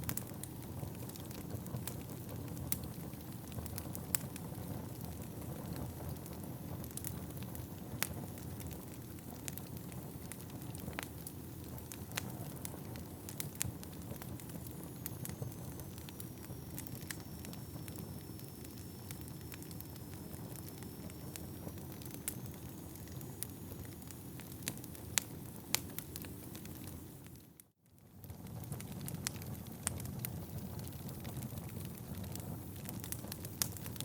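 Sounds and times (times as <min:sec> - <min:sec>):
logs crackling and popping: 0:00.0 - 0:34.0
low rumble of flames: 0:00.0 - 0:34.0.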